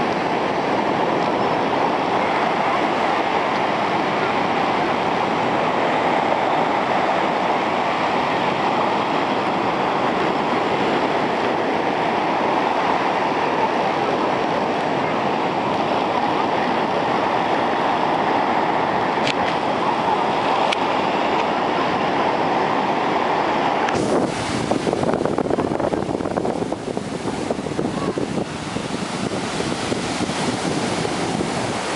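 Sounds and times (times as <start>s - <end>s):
ocean waves breaking: 0.0s - 31.9s.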